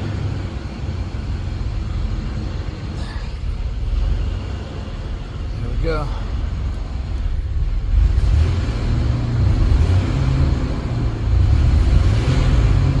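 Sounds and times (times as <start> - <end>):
car engine running deep exhaust: 0.0 - 13.0.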